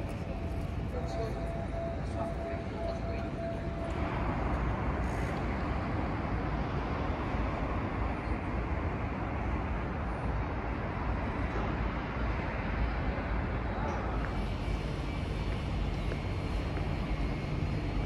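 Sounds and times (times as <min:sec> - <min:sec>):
faint steady tone: 0:00.0 - 0:18.0
road traffic rumble: 0:00.0 - 0:18.0.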